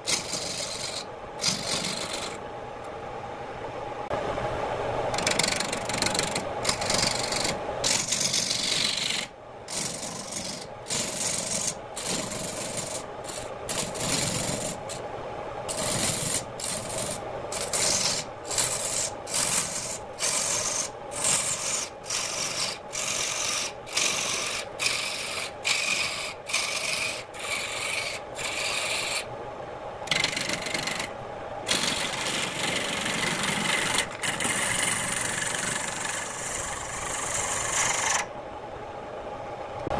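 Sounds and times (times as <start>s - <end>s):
lathe humming: 0.0s - 2.4s, 5.0s - 15.0s, 15.7s - 29.4s, 30.0s - 38.3s
lathe tool scraping wood: 0.0s - 2.4s, 5.2s - 15.0s, 15.7s - 29.3s, 30.1s - 31.1s, 31.7s - 38.3s.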